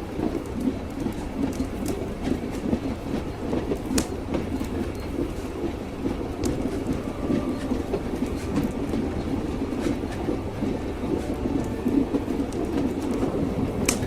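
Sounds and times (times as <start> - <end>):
low rumble of railway carriage: 0.0 - 14.0
train wheels clattering on rails: 0.0 - 14.0.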